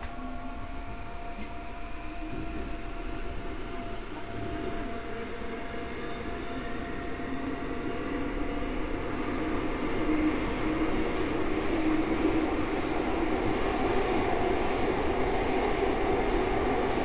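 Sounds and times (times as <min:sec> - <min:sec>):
faint train whine: 0:00.0 - 0:17.0
subway train rumble and hiss: 0:00.0 - 0:17.0.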